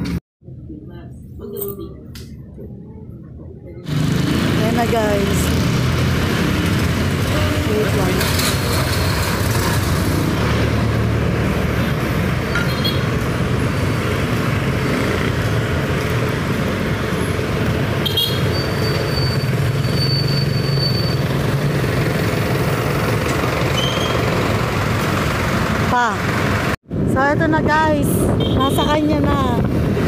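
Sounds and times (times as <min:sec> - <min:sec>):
road traffic and vehicle engines: 0:00.0 - 0:30.0.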